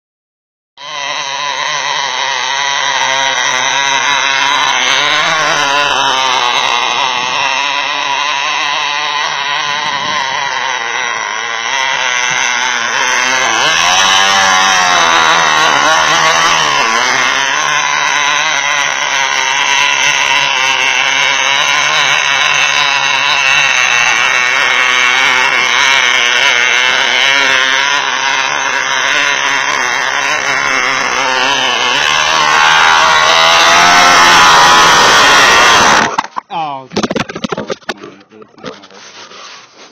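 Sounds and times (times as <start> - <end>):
model engine running: 0.8 - 39.9.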